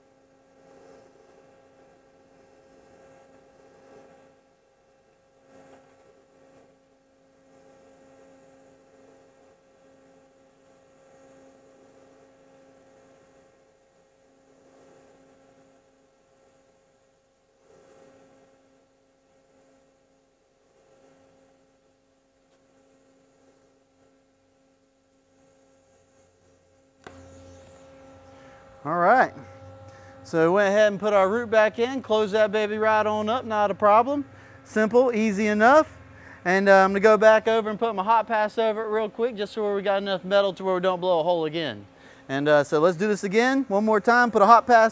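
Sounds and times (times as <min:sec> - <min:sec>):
welding arc humming: 0:00.0 - 0:44.9.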